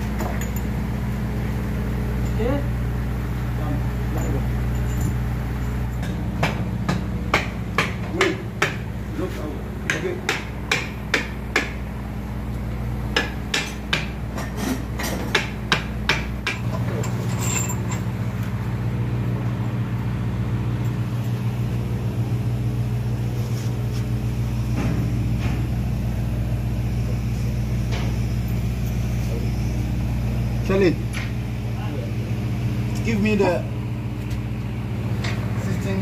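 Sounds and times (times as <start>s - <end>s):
low machinery hum: 0.0s - 36.0s.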